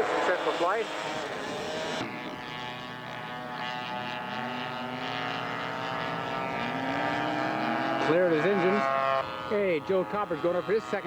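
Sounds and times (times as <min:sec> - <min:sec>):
model aircraft engines running: 0:00.0 - 0:11.0.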